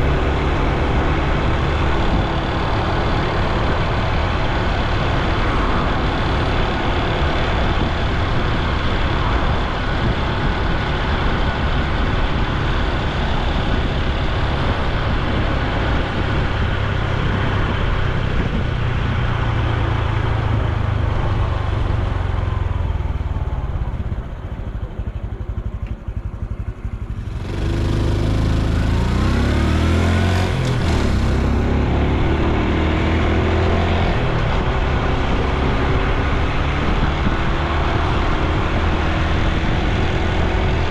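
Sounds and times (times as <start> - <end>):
motorcycle engine and exhaust: 0.0 - 40.9
wind and road noise: 0.0 - 40.9.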